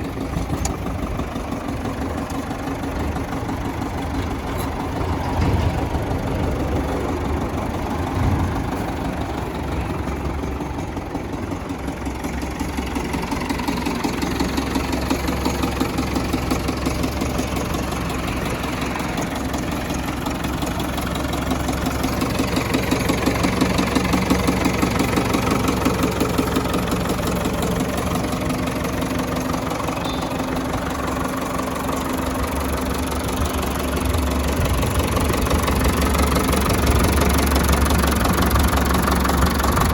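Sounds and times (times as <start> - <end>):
tractor diesel engine clattering: 0.0 - 39.9.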